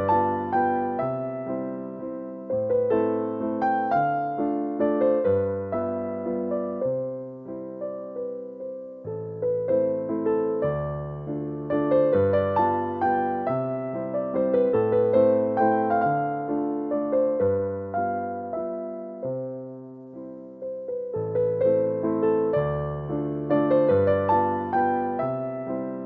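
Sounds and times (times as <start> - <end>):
slow gentle piano music: 0.0 - 26.0.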